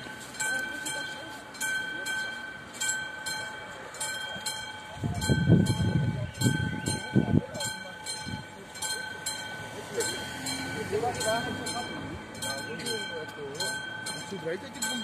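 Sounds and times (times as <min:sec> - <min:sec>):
level crossing warning bell: 0:00.0 - 0:15.0.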